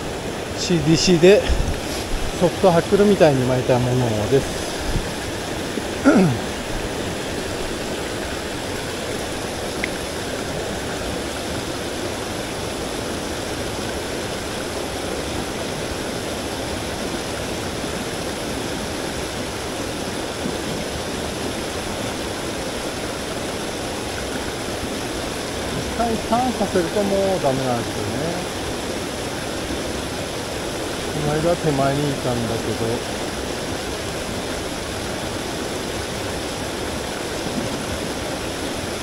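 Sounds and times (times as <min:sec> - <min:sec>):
mountain stream rushing: 0:00.0 - 0:39.0.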